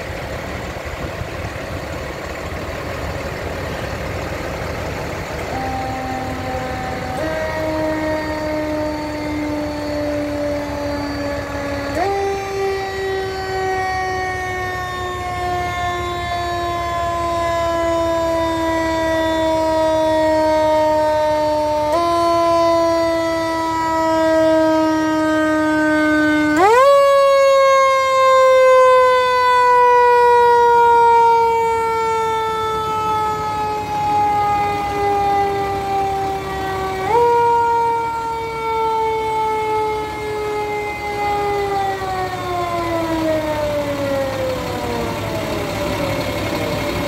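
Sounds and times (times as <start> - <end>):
fire truck siren wailing: 0.0 - 47.0.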